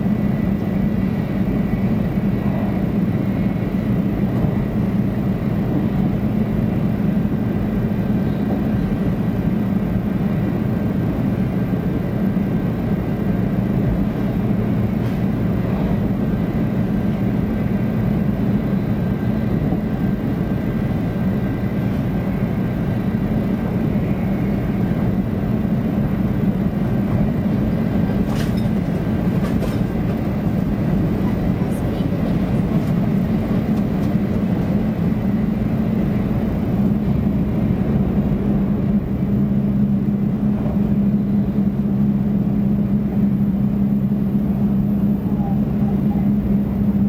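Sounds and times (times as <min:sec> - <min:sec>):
train rumbling at speed: 0:00.0 - 0:47.0.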